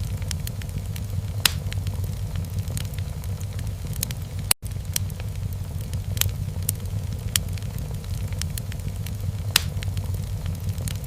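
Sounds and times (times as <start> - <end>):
sharp pops of burning logs: 0.0 - 11.0
wood fire crackling: 0.0 - 11.0.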